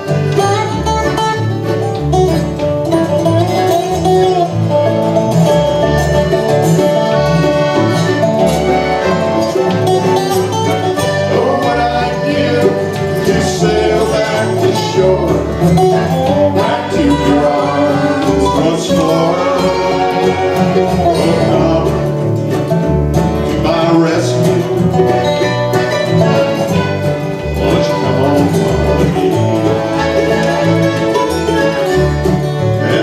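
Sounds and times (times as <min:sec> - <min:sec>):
acoustic bluegrass band playing: 0:00.0 - 0:33.0
plucked bass pulse: 0:00.1 - 0:33.0.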